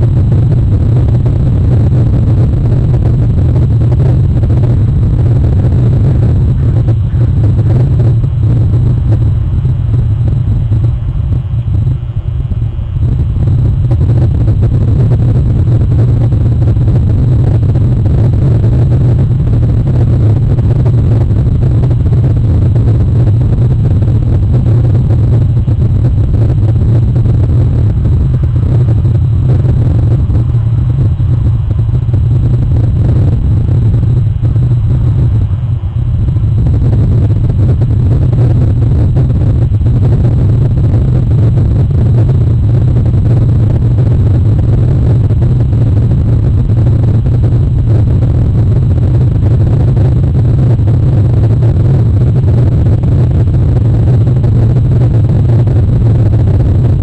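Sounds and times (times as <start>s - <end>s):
high electronic whine: 0.0s - 57.0s
low rumble with hiss: 0.0s - 57.0s.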